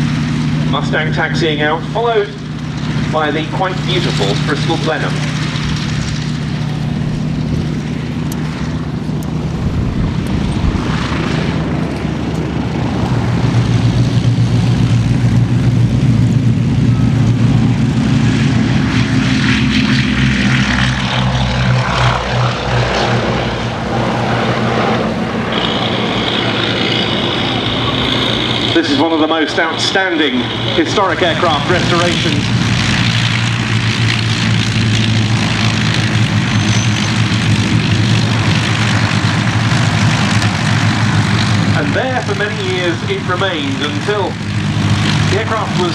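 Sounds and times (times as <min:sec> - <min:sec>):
propeller aircraft engines droning: 0:00.0 - 0:45.9.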